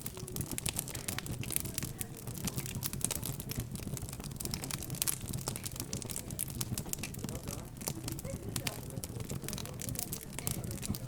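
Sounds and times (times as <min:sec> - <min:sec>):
murmur of background chatter: 0:00.0 - 0:11.0
wood fire crackling and popping: 0:00.0 - 0:11.0.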